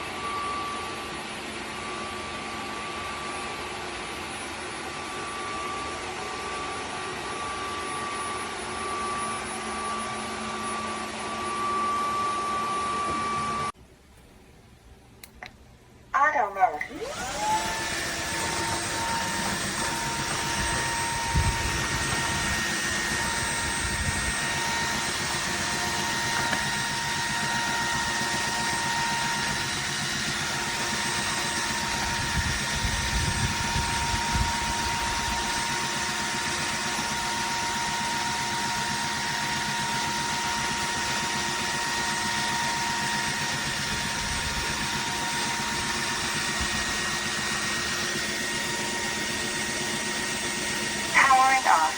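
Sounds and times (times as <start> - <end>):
vacuum mop motor whine: 0.0 - 13.8, 16.8 - 51.9.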